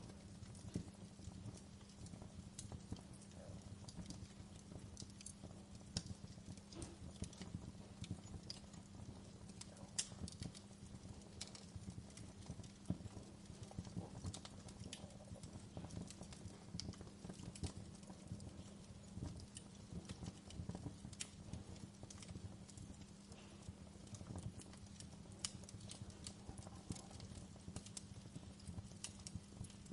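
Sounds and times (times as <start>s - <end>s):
fire rumbling: 0.0s - 29.9s
firewood crackling and popping: 0.0s - 29.9s.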